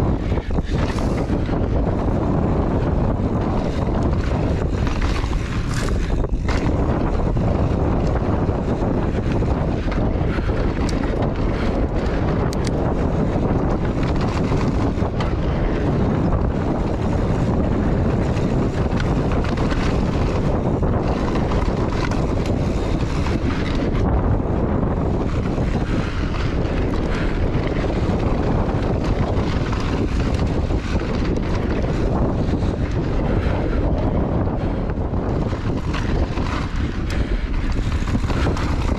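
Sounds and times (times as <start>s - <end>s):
bike rattling: 0.0s - 38.9s
wind buffeting microphone: 0.0s - 38.9s.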